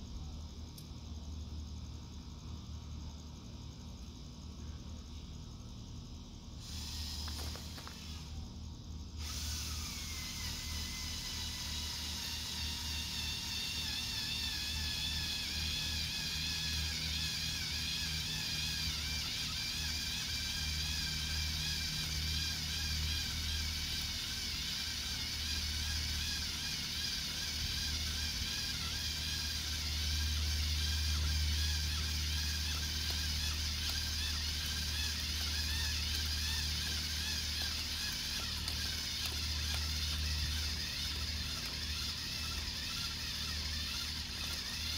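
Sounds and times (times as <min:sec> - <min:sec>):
auger bit boring into dirt: 0:06.6 - 0:08.3, 0:09.2 - 0:44.9
power drill whining: 0:06.6 - 0:08.3, 0:09.2 - 0:44.9.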